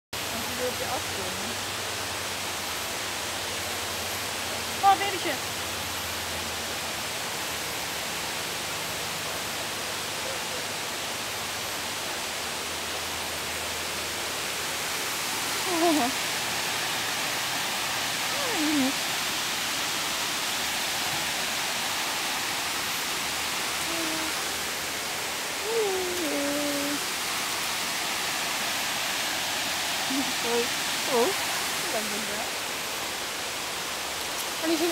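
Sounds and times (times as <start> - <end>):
steady rushing hiss: 0.2 - 34.9.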